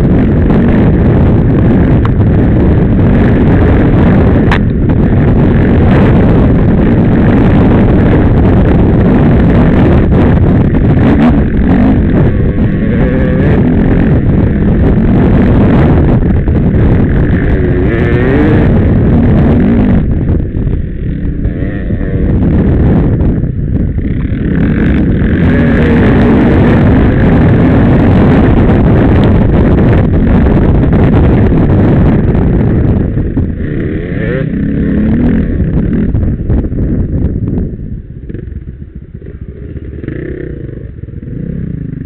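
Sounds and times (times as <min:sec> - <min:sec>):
dirt bike engine revving: 0:00.0 - 0:37.4, 0:38.2 - 0:42.0.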